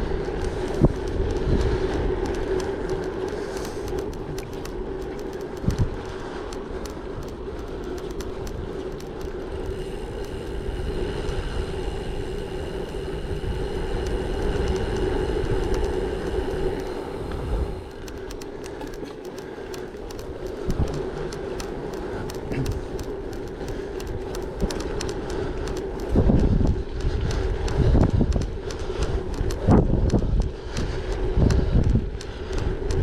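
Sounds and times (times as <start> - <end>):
bike tyres rumbling: 0.0 - 33.0
hum: 0.0 - 33.0
wind noise on microphone: 0.0 - 33.0
sharp clicks: 0.3 - 11.5, 12.3 - 33.0.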